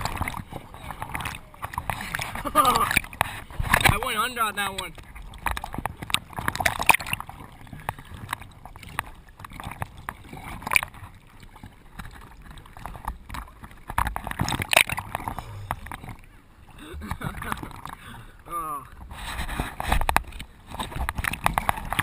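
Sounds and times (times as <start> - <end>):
sea water splashing in surf: 0.0 - 18.2.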